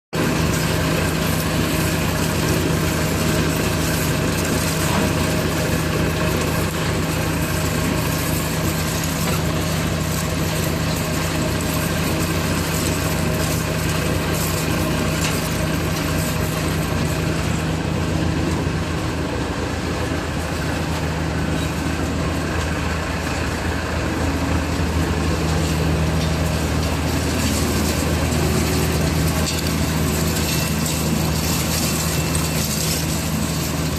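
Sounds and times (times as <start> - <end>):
machine humming and rushing: 0.2 - 33.9.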